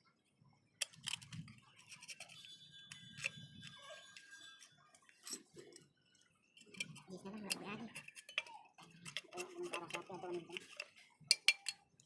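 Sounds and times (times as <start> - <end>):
metal parts clicking and clinking: 0.8 - 5.9, 6.6 - 12.0.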